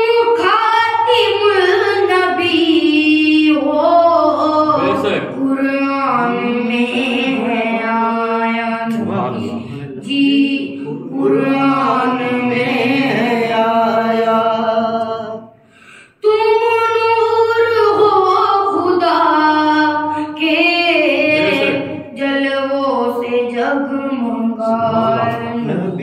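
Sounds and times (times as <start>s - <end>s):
boy singing unaccompanied: 0.0s - 15.4s, 16.2s - 26.0s.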